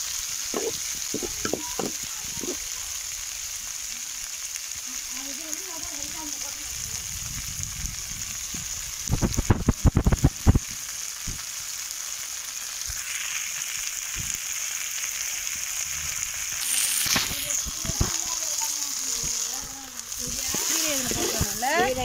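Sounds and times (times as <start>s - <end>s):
leaves sizzling in oil: 0.0s - 22.0s.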